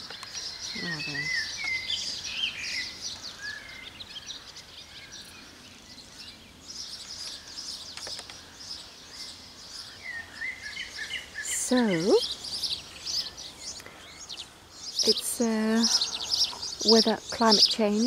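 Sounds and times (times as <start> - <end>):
faint outdoor hiss: 0.0 - 18.0
small birds chirping and singing: 0.0 - 18.0.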